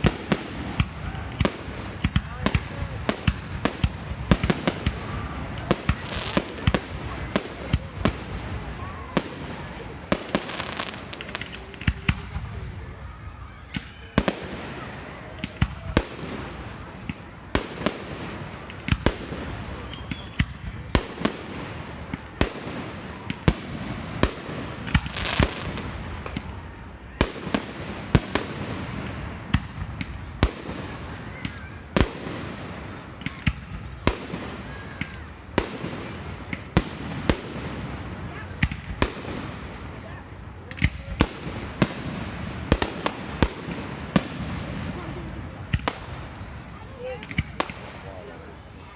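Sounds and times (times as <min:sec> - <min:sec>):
fireworks bangs: 0:00.0 - 0:48.9
fireworks crackle and rumble: 0:00.0 - 0:48.9.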